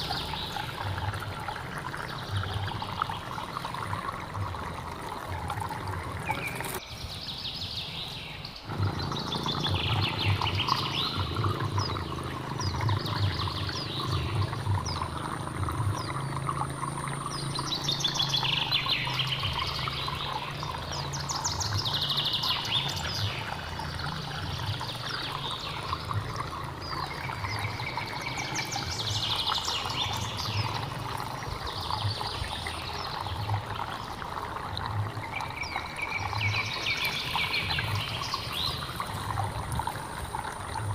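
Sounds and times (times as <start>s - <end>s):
mountain stream running: 0.0s - 40.9s.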